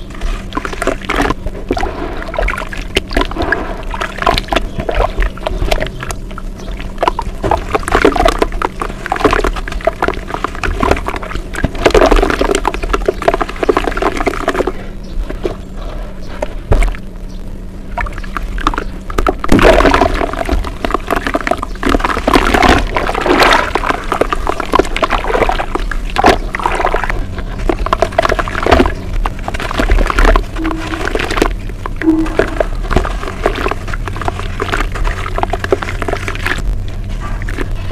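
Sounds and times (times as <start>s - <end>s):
wet crackly paste being worked: 0.0s - 37.9s.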